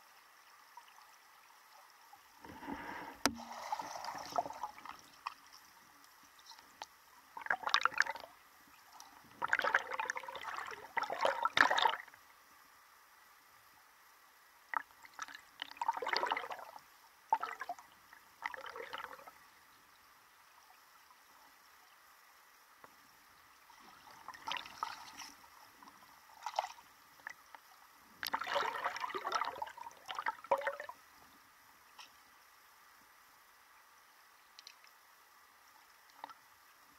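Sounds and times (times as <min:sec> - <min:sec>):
muffled river water gurgling: 0:00.0 - 0:36.9.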